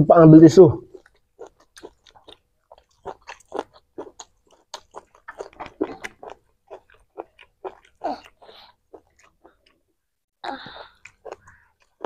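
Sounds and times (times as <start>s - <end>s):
person chewing food: 0.9s - 12.0s.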